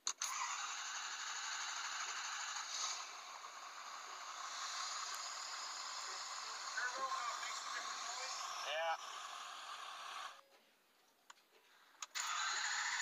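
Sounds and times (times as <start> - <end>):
diesel engine starting and idling: 0.1 - 10.4, 12.0 - 13.0.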